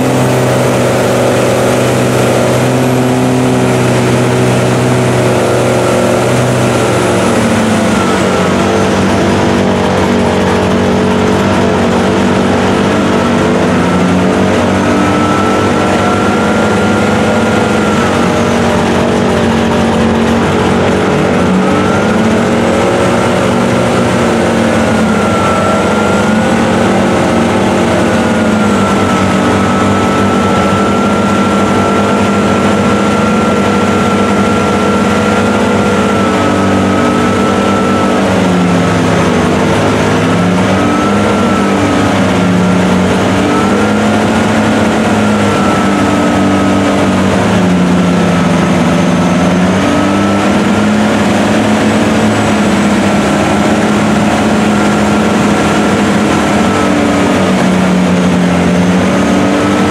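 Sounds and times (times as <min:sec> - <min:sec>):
high whine: 0:00.0 - 0:59.9
truck engine revving: 0:00.0 - 0:59.9.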